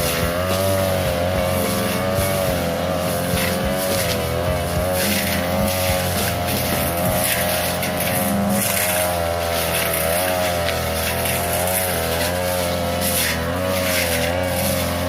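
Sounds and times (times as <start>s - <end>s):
brush cutter running at high revs: 0.0s - 15.0s.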